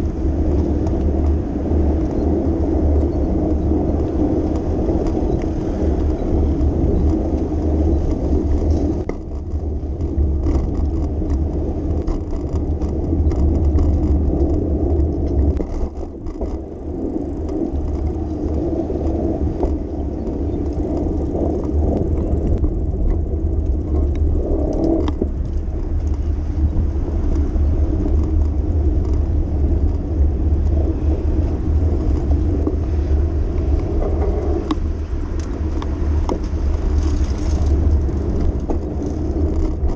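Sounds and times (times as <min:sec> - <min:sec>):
bicycle rumble and whir: 0:00.0 - 0:39.9
cars passing: 0:00.0 - 0:39.9.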